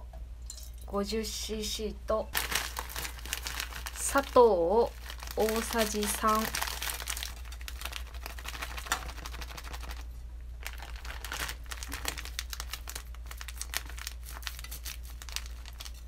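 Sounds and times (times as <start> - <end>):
plastic bag crinkling: 2.3 - 16.0.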